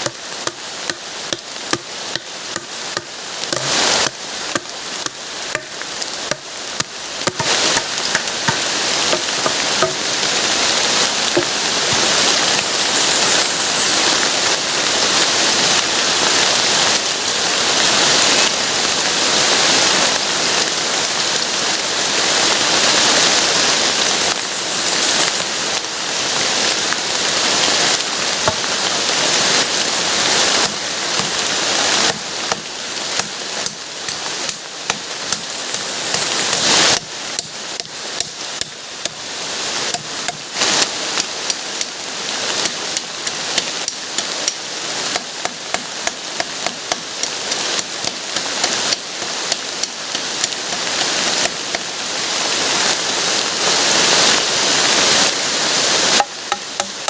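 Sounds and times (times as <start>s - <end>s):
heavy rain hissing: 0.0s - 57.0s
raindrops striking a surface: 0.0s - 57.0s.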